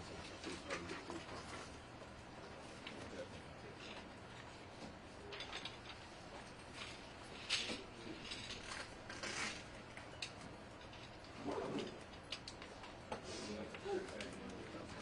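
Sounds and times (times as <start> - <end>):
room background noise: 0.0 - 15.0.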